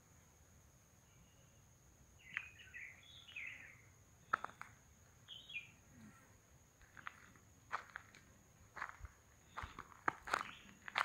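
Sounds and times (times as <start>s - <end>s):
faint bird chirping: 0.0s - 7.4s, 9.3s - 11.0s.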